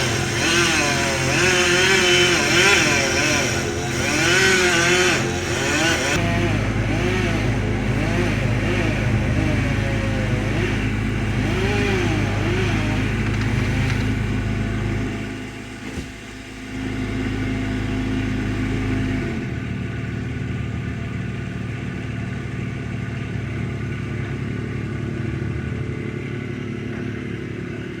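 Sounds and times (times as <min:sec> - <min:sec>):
tree-work equipment engine running: 0:00.0 - 0:28.0.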